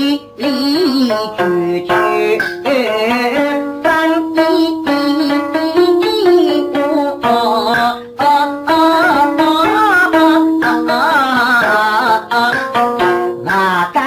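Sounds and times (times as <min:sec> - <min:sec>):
held melodic notes with wavering pitch: 0:00.0 - 0:14.0.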